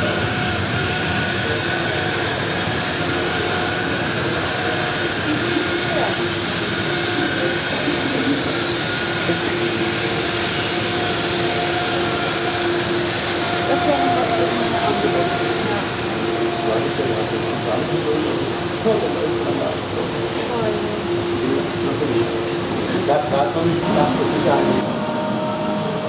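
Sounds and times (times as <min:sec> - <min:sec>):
faint steady tones: 0:00.0 - 0:26.0
model trains running: 0:00.0 - 0:26.0
murmur of crowd voices: 0:00.0 - 0:26.0.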